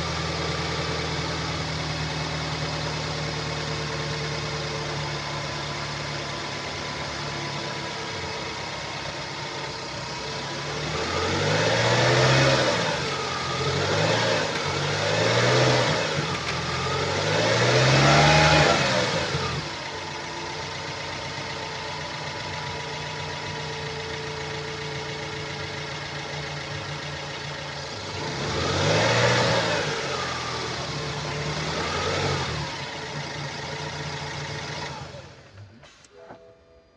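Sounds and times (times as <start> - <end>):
car engine idling and revving: 0.0 - 36.4.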